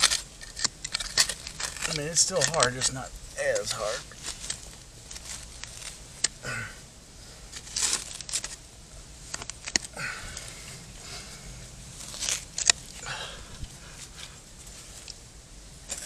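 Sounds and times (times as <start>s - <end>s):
digging in hard dirt: 0.0s - 16.0s.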